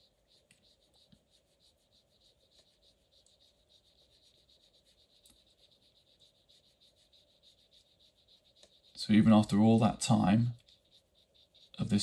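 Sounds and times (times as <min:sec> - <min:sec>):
brush rubbing on paper: 0:00.0 - 0:12.0.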